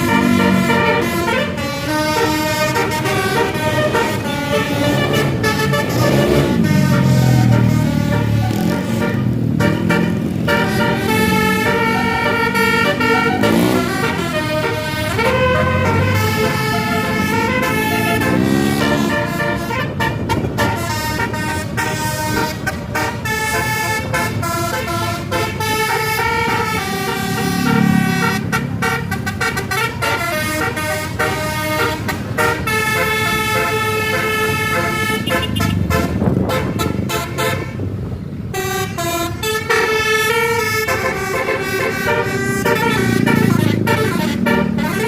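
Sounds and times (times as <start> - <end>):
bus air horn playing a tune: 0.0 - 45.0.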